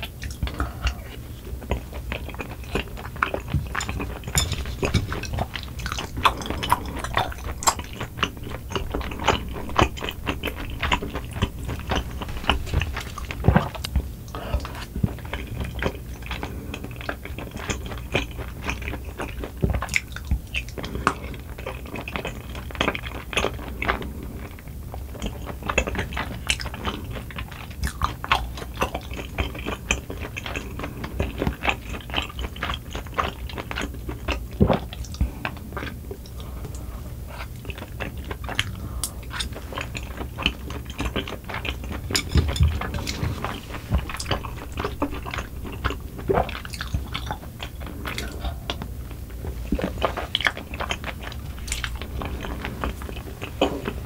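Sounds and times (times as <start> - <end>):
wet chewing mouth clicks: 0.0 - 54.0.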